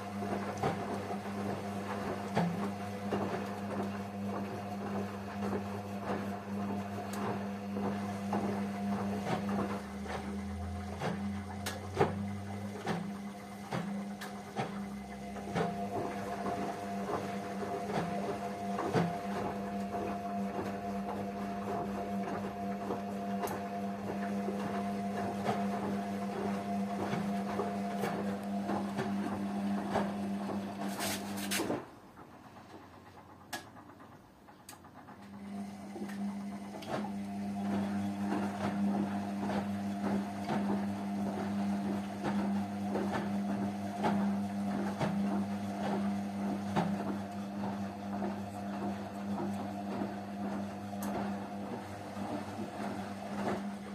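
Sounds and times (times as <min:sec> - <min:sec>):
ticks of laundry in drum: 0:00.0 - 0:53.9
washing machine motor hum: 0:00.0 - 0:53.9.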